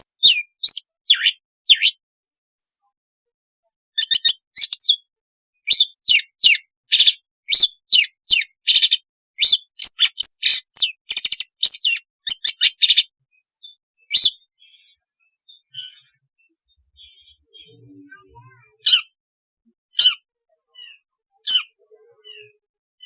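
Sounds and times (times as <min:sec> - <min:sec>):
bird chattering song: 0:00.0 - 0:02.0, 0:04.0 - 0:05.1, 0:05.7 - 0:19.2, 0:19.9 - 0:22.7.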